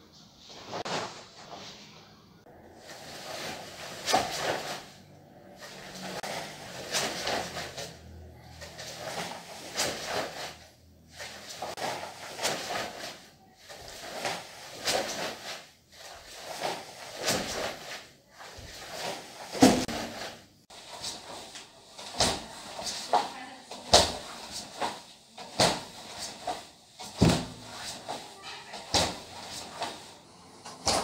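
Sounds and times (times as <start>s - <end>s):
bare feet on hardwood floor: 2.8s - 5.0s, 5.6s - 31.0s
cloth swishing and snapping: 2.9s - 4.9s, 5.6s - 8.0s, 8.6s - 31.0s.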